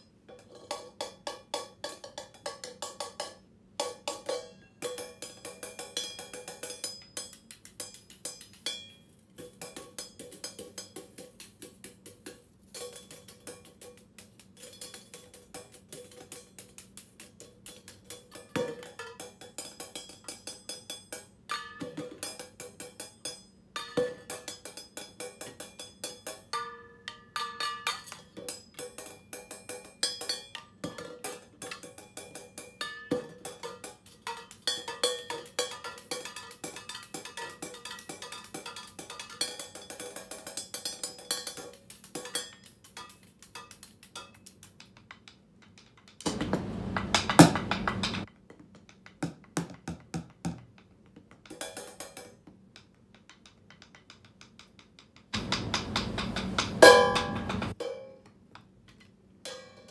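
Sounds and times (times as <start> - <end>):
sticks tapping cymbal: 0.7 - 48.3, 51.5 - 58.0.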